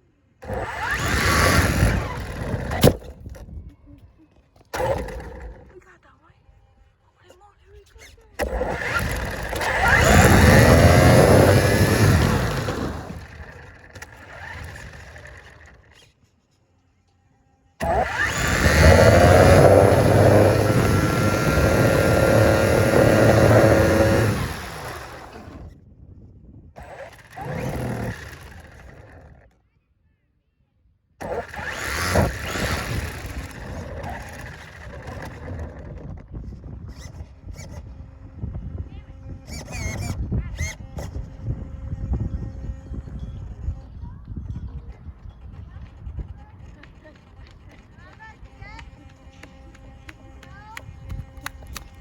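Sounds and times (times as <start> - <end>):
toy car electric motor whining: 0.4 - 6.0, 7.8 - 16.6, 17.8 - 25.8, 26.8 - 29.6, 31.2 - 44.0, 45.4 - 52.0.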